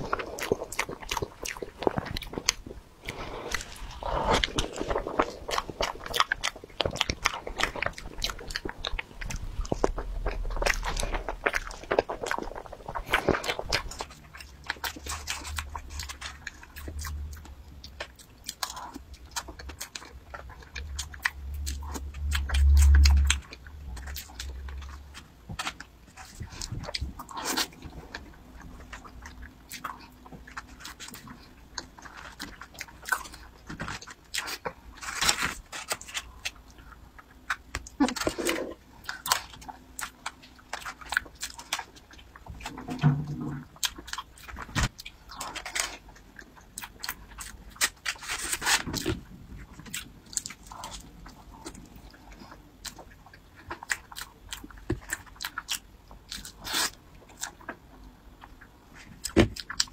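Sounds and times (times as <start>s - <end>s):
chewing and mouth clicks: 0.0s - 59.9s.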